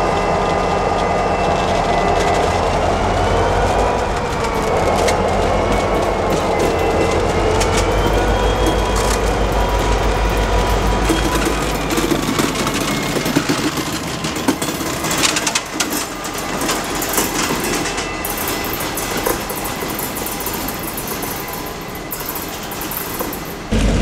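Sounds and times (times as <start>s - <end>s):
diesel locomotive engine drone: 0.0s - 24.0s
train wheels clattering on rails: 0.0s - 24.0s.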